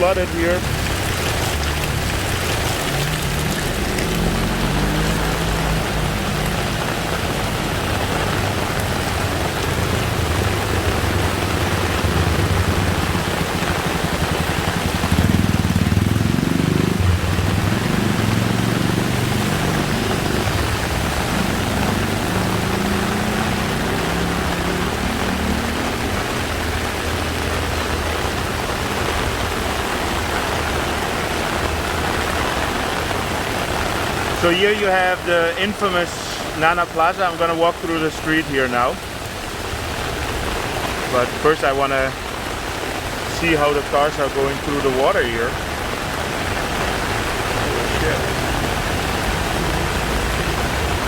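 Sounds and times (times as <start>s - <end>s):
heavy rain pouring: 0.0s - 51.0s
vehicle engines running: 0.0s - 51.0s.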